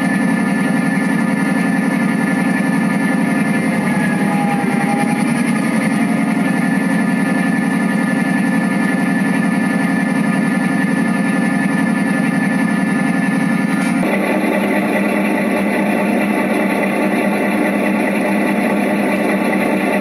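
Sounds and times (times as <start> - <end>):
model train rumbling past: 0.0 - 10.1, 10.7 - 20.0
thin high whine: 0.0 - 20.0.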